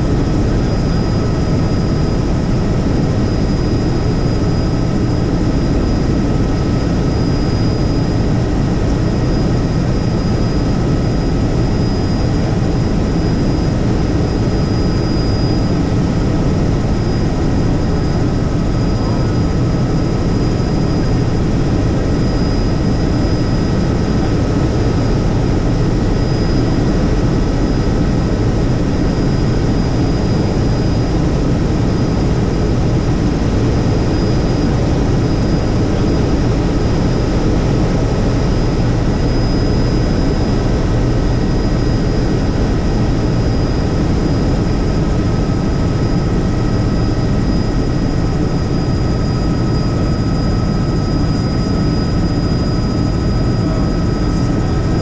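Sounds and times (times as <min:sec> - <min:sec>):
faint high whine: 0:00.0 - 0:55.0
helicopter rotor and engine: 0:00.0 - 0:55.0.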